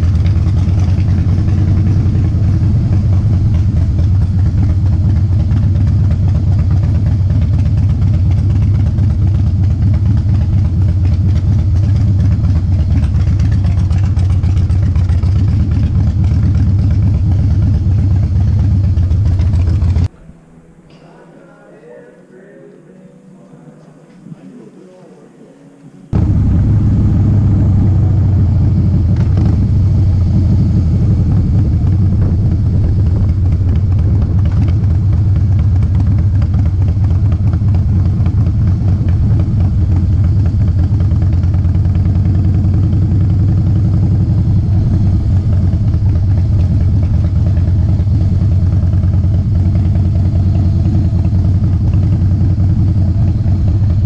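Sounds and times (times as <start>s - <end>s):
motorcycle engine droning: 0.0s - 54.0s.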